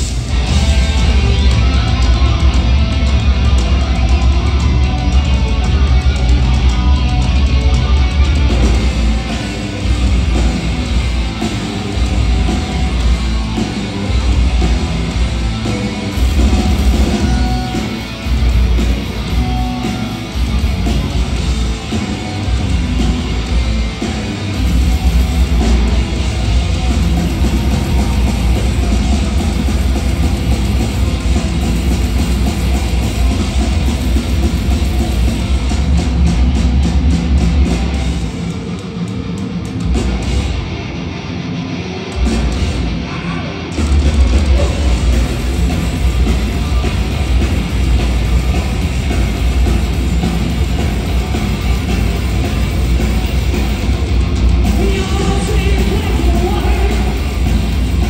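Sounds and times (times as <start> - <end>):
distorted electric guitars: 0.0 - 58.0.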